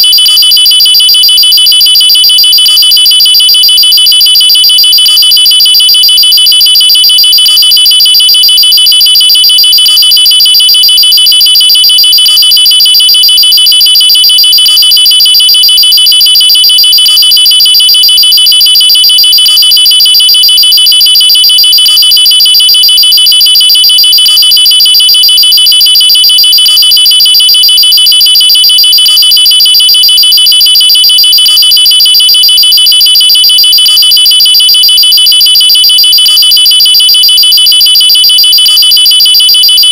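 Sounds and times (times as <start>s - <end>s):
electronic alarm pulsing tone: 0.0s - 39.9s.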